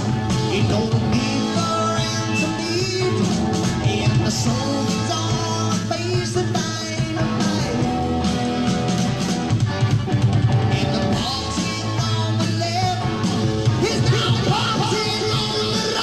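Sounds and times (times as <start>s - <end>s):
lead vocal singing: 0.0s - 8.2s, 10.6s - 16.0s
rock band playing: 0.0s - 16.0s.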